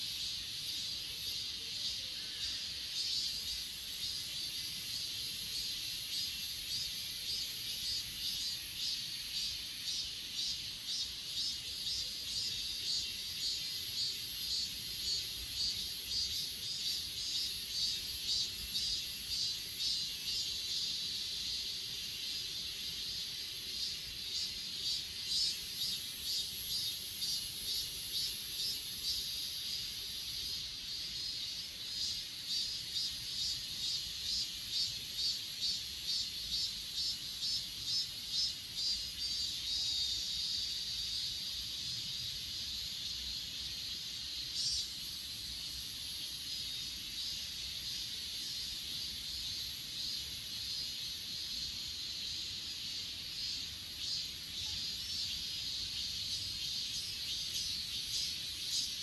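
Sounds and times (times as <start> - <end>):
crickets chirping: 0.0 - 59.0
insect high buzz: 0.0 - 59.0.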